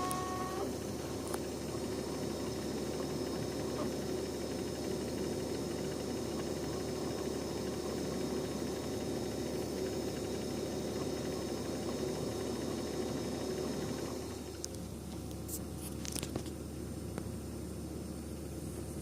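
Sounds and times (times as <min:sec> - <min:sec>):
refrigerator humming: 0:00.0 - 0:19.0.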